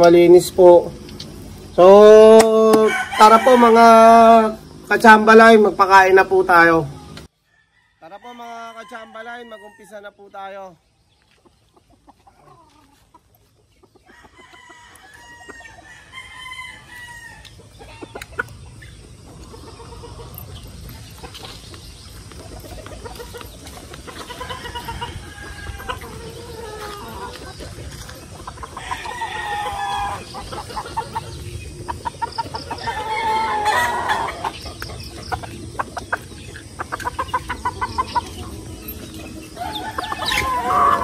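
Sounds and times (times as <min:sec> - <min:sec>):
roosters crowing: 0:00.0 - 0:10.8, 0:11.5 - 0:41.0.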